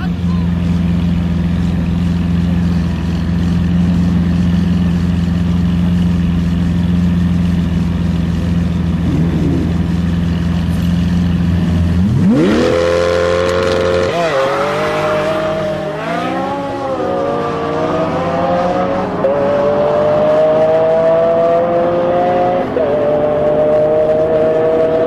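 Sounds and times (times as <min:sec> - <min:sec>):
sports car engines revving: 0:00.0 - 0:25.0.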